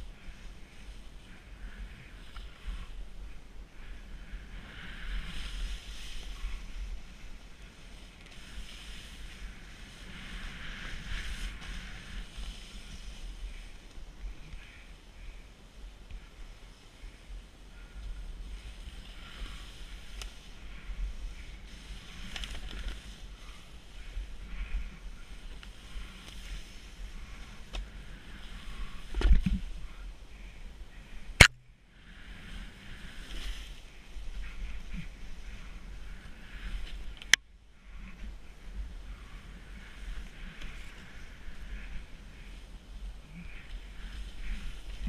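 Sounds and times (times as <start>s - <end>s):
snowboard sliding over snow: 0.0s - 31.2s, 32.0s - 37.2s, 37.8s - 45.0s
wind rumbling on microphone: 0.0s - 45.0s.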